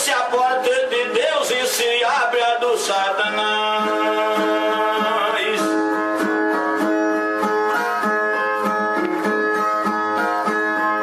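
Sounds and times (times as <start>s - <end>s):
plucked guitar: 0.0s - 11.0s.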